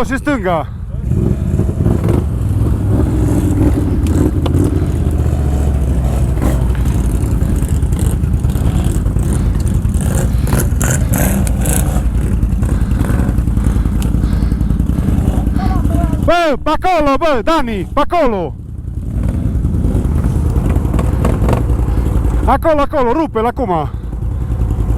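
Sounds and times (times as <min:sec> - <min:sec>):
atv engine running under load: 0:00.0 - 0:24.9.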